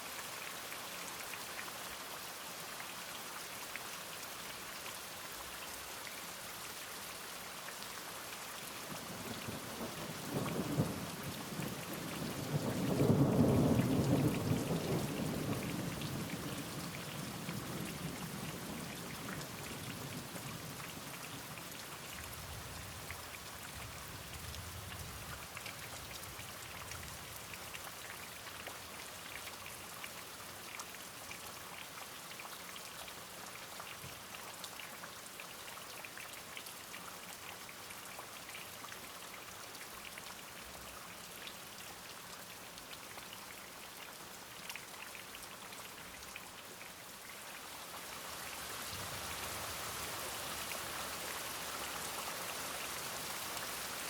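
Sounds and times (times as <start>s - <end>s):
rain drops ticking on surface: 0.0s - 54.0s.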